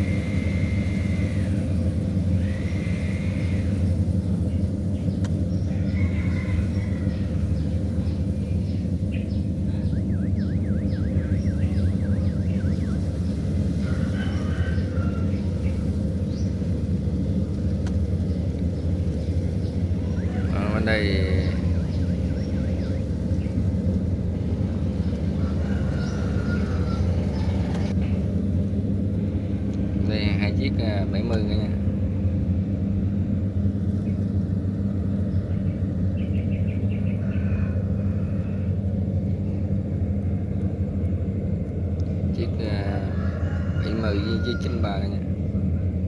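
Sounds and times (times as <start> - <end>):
combine harvester diesel engine: 0.0 - 46.0.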